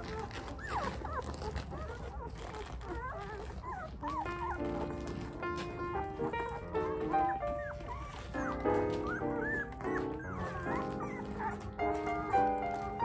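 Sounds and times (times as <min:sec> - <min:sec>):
puppies whimpering: 0:00.0 - 0:13.0.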